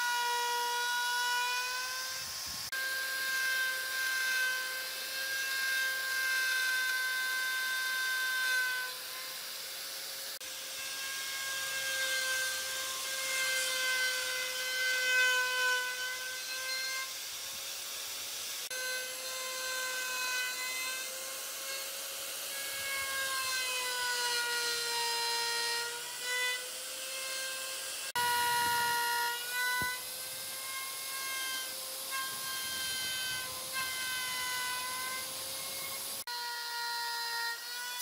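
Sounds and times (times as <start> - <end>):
power tool motor whining on wood: 0.0 - 38.0.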